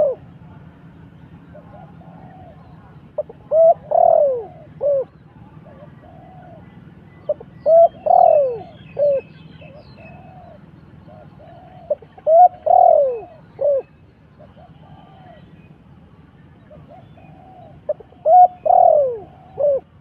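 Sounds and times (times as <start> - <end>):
dove cooing: 0.0 - 0.4, 1.5 - 15.6, 16.6 - 20.0.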